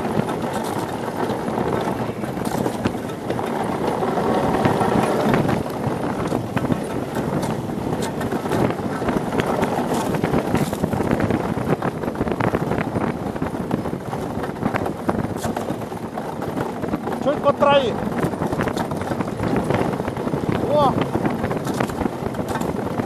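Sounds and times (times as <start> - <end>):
sharp clicks and knocks: 0.0 - 11.9, 13.7 - 19.9, 21.0 - 23.0
ice yacht runners scraping ice: 0.0 - 23.0
wind buffeting microphone: 0.0 - 23.0.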